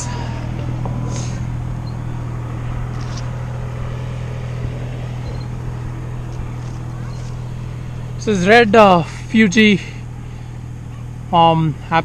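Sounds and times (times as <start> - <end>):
low engine hum: 0.0 - 12.0
outdoor background noise: 0.0 - 12.0.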